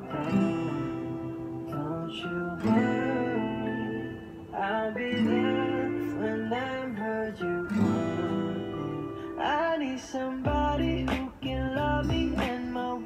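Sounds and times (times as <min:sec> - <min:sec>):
acoustic guitar chords: 0:00.0 - 0:13.0
person singing: 0:00.0 - 0:13.0
recorded song: 0:00.0 - 0:13.0.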